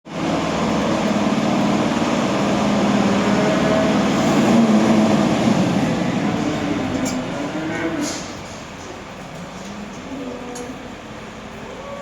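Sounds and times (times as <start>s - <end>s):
engine humming: 0.1s - 12.0s.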